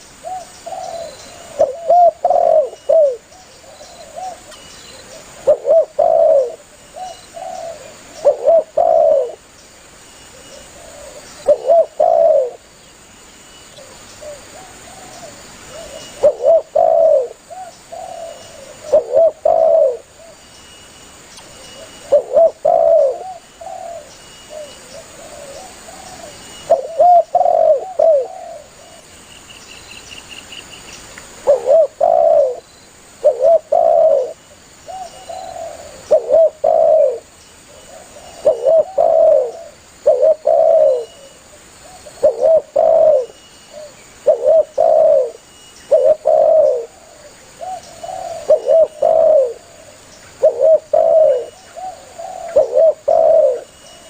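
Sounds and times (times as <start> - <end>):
dove cooing: 0.0 - 9.4, 10.3 - 12.6, 13.8 - 20.4, 21.8 - 29.0, 31.4 - 32.6, 33.2 - 54.0.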